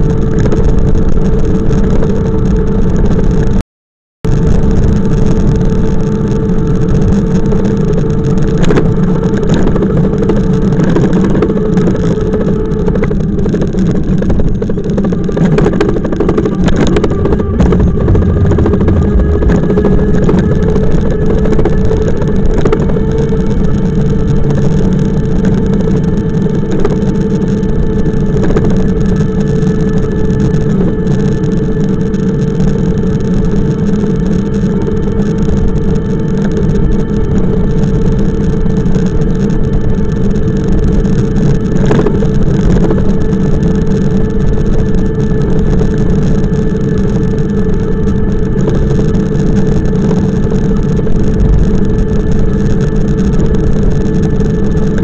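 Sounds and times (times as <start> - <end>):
low road rumble: 0.0 - 3.6, 4.3 - 55.0
bike running hum: 4.3 - 55.0.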